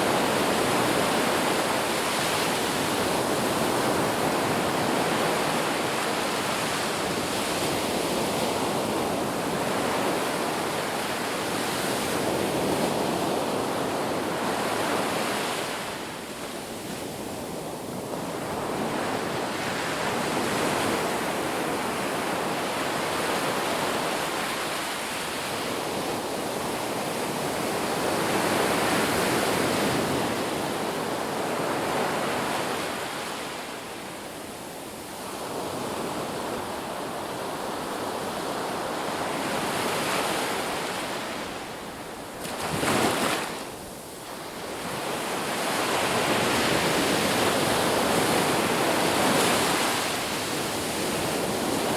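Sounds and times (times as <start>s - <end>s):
ocean surf washing onto beach: 0.0s - 51.9s.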